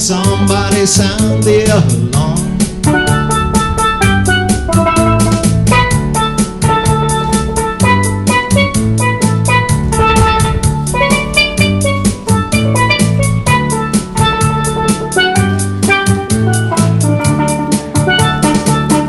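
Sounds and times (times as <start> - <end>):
bass line: 0.0 - 19.0
drum kit beat: 0.0 - 19.0
steel drum melody: 0.0 - 19.0.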